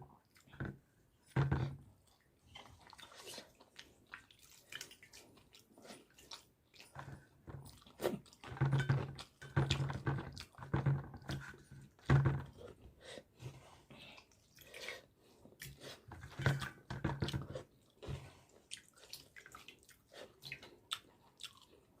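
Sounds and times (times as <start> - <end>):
person chewing food: 1.9 - 11.9, 12.5 - 22.0.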